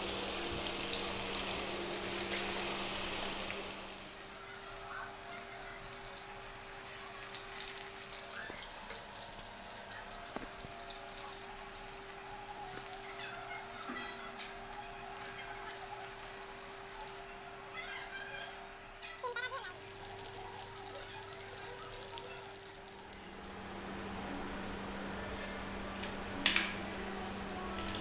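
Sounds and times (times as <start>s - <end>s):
food deep-frying in oil: 0.0s - 23.7s.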